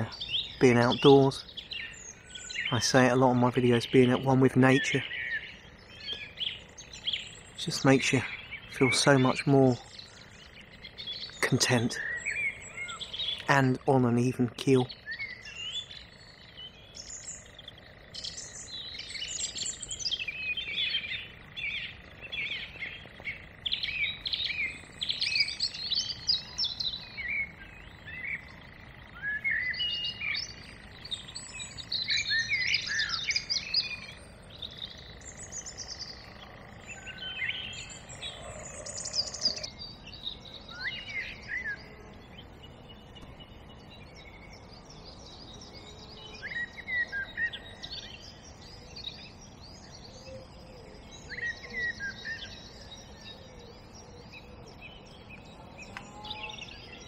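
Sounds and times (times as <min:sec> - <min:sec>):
songbirds twittering: 0:00.0 - 0:57.0.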